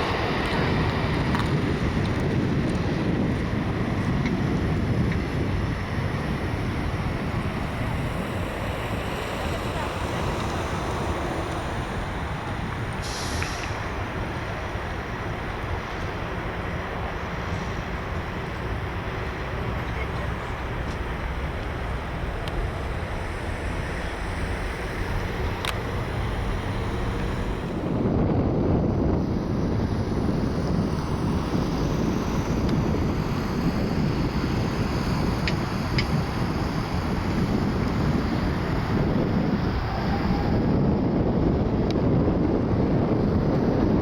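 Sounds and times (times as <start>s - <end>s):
steady rumble: 0.0s - 44.0s
wind buffeting microphone: 0.0s - 44.0s.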